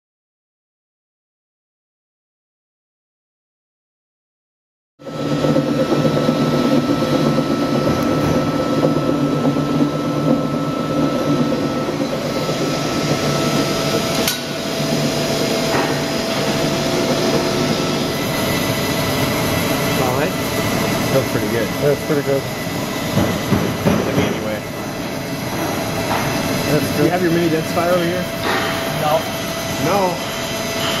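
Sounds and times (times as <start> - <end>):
coffee grinder whirring: 5.0 - 31.0.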